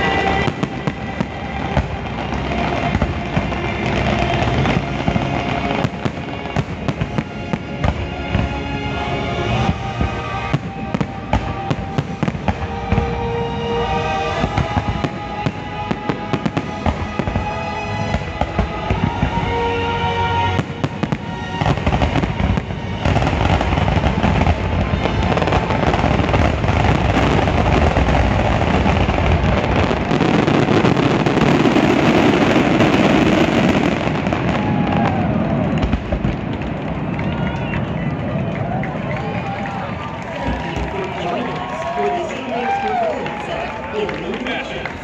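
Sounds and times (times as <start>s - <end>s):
fireworks bangs and crackling: 0.0s - 45.0s
fireworks show music: 0.0s - 45.0s.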